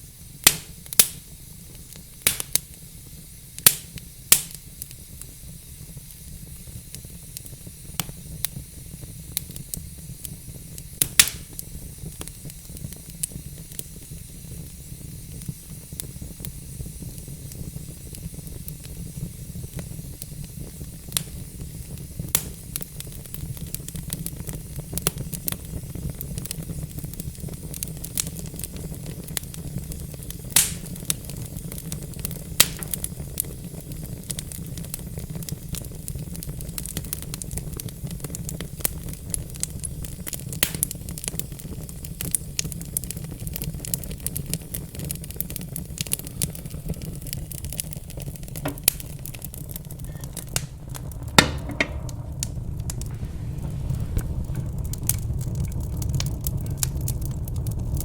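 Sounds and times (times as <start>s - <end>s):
fire low rumble: 0.0s - 58.0s
log fire crackling and popping: 0.3s - 58.0s.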